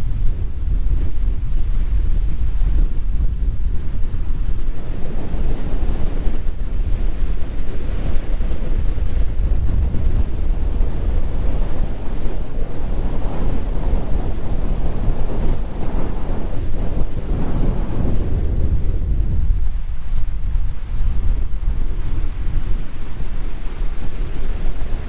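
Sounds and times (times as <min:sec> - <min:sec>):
gusty wind on microphone: 0:00.0 - 0:25.0.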